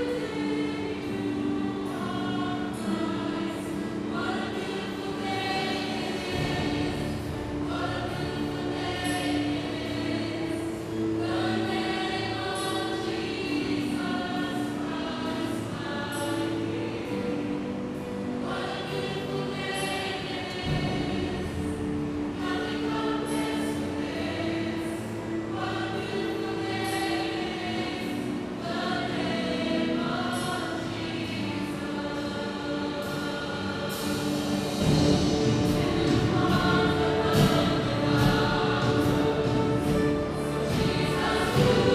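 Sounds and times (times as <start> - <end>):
choir singing: 0.0 - 41.9.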